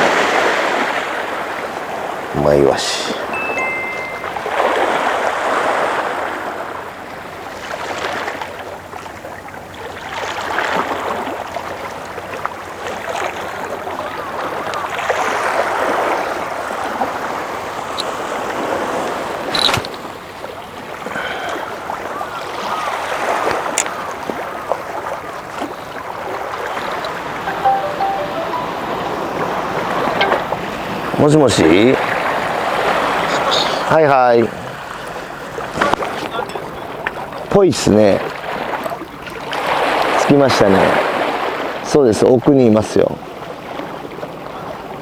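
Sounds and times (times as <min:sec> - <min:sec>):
sea water washing on shore: 0:00.0 - 0:28.8, 0:29.6 - 0:45.0.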